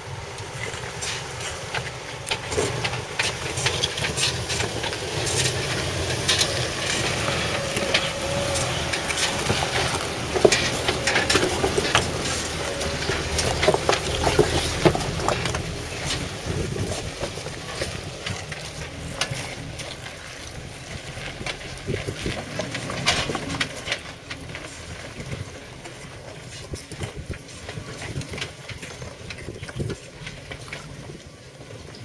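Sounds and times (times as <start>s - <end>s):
low engine rumble: 0.0s - 32.0s
tyres crunching over stones: 0.0s - 32.0s.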